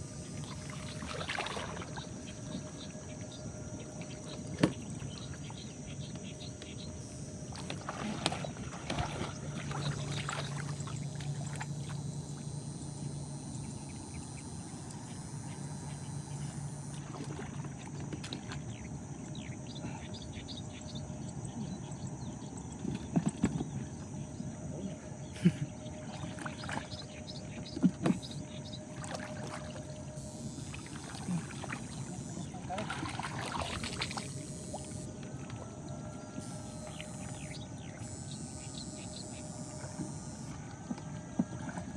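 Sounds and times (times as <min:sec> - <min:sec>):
water sloshing and splashing: 0:00.0 - 0:13.3, 0:16.3 - 0:19.7, 0:22.4 - 0:41.9
low steady hum: 0:00.0 - 0:41.9.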